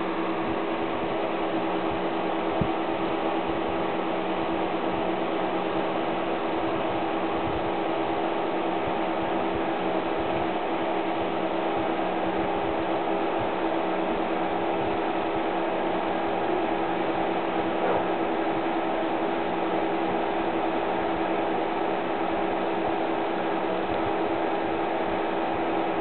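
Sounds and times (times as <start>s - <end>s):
fans humming with hiss: 0.0s - 26.0s.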